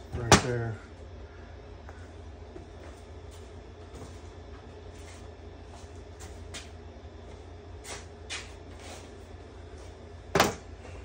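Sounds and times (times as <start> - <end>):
steady low room hum: 0.0 - 11.0.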